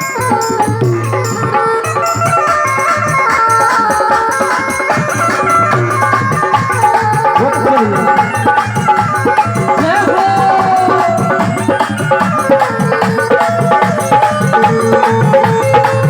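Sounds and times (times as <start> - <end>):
hand drums fast rhythm: 0.0 - 16.0.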